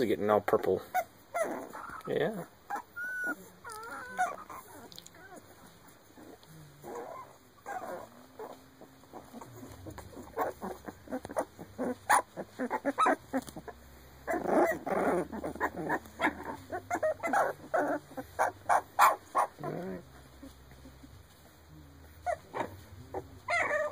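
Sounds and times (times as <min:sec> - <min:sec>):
puppies crying: 0:00.9 - 0:23.9.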